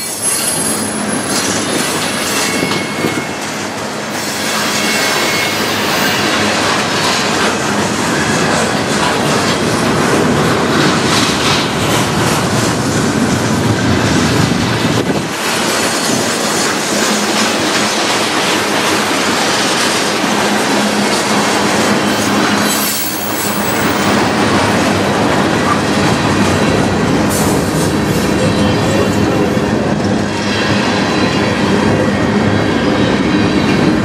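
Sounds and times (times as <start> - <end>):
steel train wheels on rails: 0.0 - 34.0.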